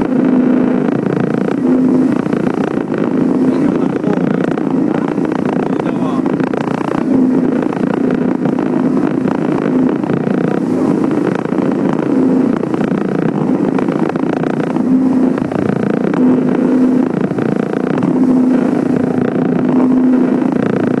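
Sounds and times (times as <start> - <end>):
loud rushing water: 0.0 - 21.0
outboard engine drone: 0.0 - 21.0.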